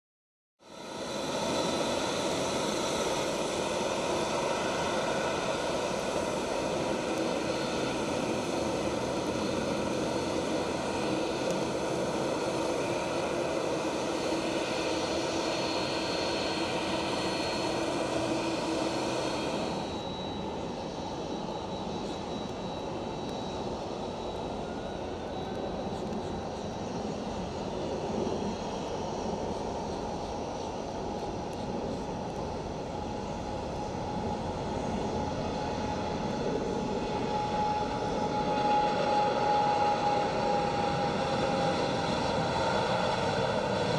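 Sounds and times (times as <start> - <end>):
jet engines whining: 0.7 - 43.9
jet takeoff rumble: 0.7 - 43.9.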